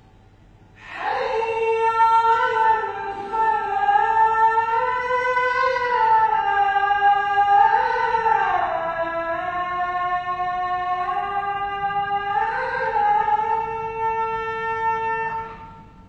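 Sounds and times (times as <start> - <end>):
person chanting call to prayer: 0.8 - 15.9.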